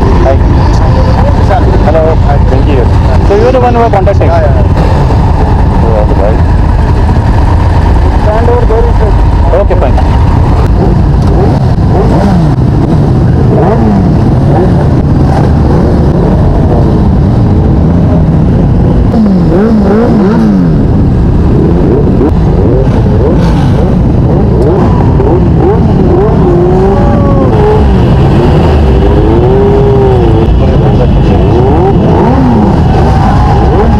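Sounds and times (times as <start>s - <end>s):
motorcycle engines revving: 0.0s - 33.9s.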